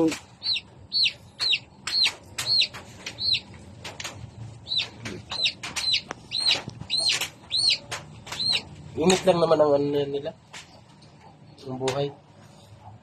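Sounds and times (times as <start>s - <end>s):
chicks peeping: 0.0s - 11.9s.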